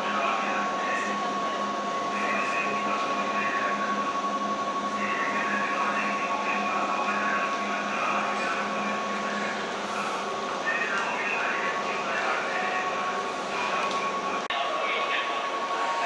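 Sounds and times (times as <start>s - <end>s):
faint voices: 0.0s - 16.0s
high-pitched whine: 0.0s - 16.0s.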